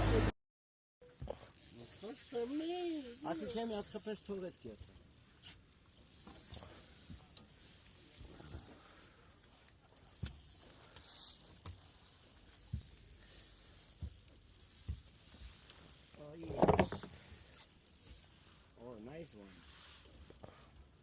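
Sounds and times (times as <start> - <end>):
fishing reel clicking whir: 1.2 - 20.8.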